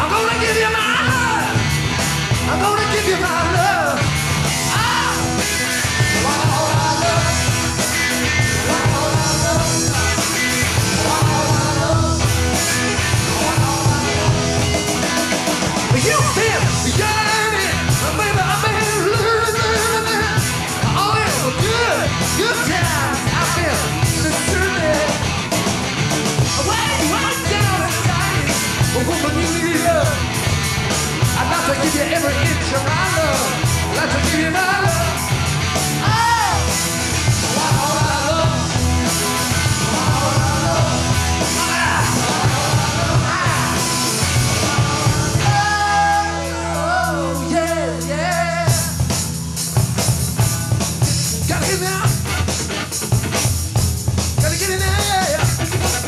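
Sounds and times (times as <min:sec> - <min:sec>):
man singing: 0:00.0 - 0:01.6, 0:02.5 - 0:04.1, 0:04.7 - 0:15.2, 0:15.9 - 0:25.2, 0:26.5 - 0:30.2, 0:31.2 - 0:35.3, 0:36.0 - 0:36.7, 0:37.4 - 0:49.1, 0:51.0 - 0:52.2, 0:54.4 - 0:55.8
hard rock band playing: 0:00.0 - 0:56.0.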